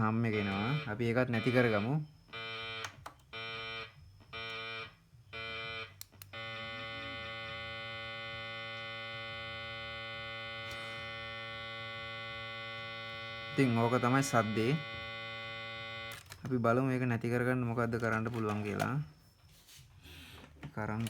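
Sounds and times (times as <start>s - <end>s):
buzzing mains hum from speaker: 0.0s - 21.0s.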